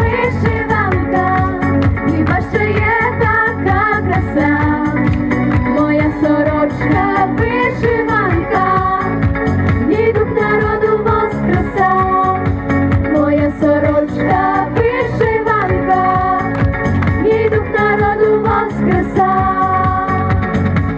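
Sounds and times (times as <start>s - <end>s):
pop melody over beat: 0.0s - 20.9s.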